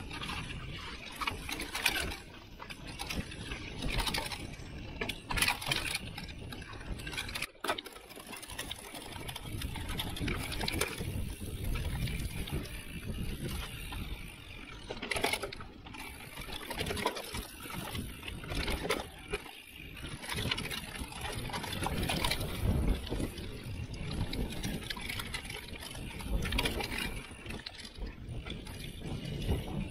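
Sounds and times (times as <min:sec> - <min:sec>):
wind rumble on microphone: 0:00.0 - 0:07.5, 0:08.4 - 0:29.9
bike rattling over bumps: 0:00.0 - 0:29.9
bike tyres rolling over dirt: 0:00.0 - 0:29.9.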